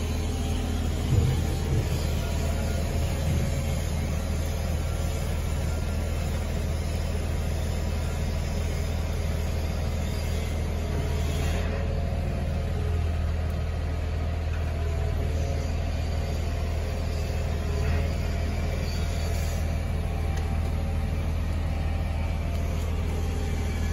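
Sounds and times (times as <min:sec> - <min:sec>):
low mechanical hum: 0:00.0 - 0:23.9.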